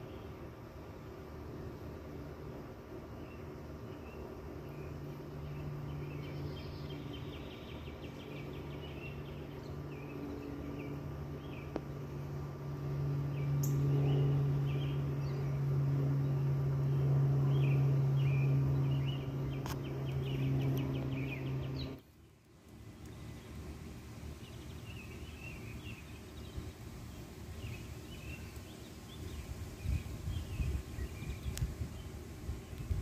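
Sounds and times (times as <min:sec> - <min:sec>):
steady low hum: 0:00.0 - 0:33.0
small birds chirping: 0:03.1 - 0:11.9, 0:13.2 - 0:33.0.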